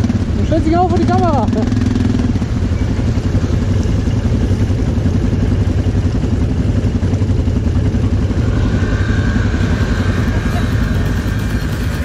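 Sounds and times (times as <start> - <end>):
quad engine idling: 0.0 - 12.0.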